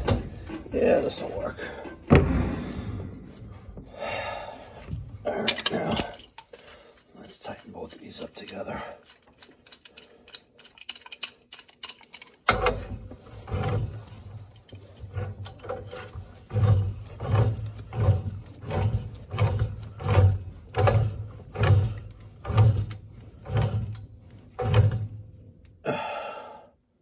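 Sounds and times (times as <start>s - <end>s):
pipe threads creaking and grinding: 0.0s - 25.8s.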